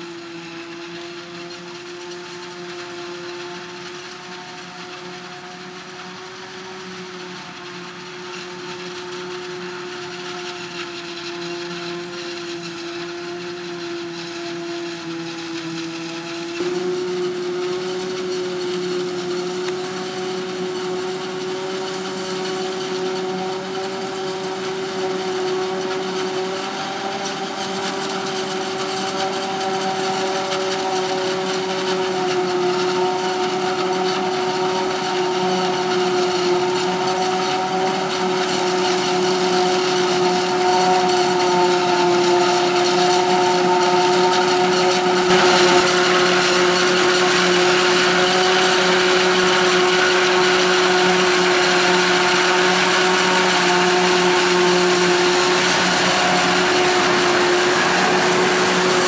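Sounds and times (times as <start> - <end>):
forage harvester high whine: 0.0 - 59.0
tractor running: 0.0 - 59.0.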